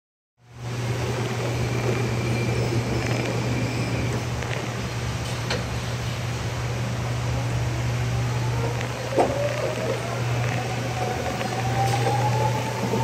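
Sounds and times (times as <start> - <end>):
forklift humming: 0.6 - 13.0.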